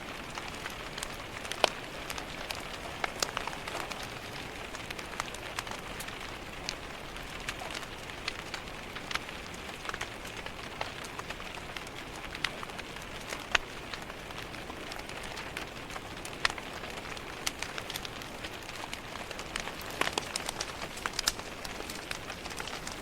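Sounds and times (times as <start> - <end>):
rain on window glass: 0.0 - 23.0
wood fire crackling: 0.0 - 23.0.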